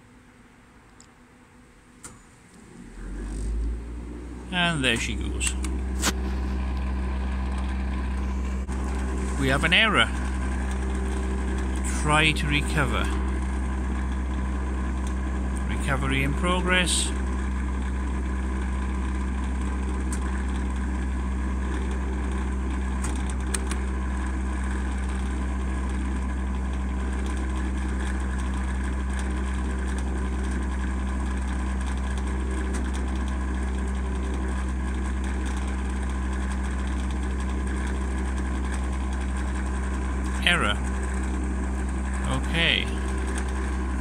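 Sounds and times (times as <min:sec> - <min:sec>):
electric car charger humming: 0:00.0 - 0:44.0.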